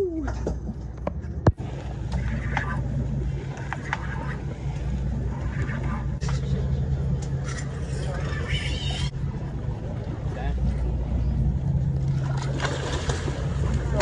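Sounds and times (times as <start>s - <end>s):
boat diesel engine drone: 0.0s - 14.0s.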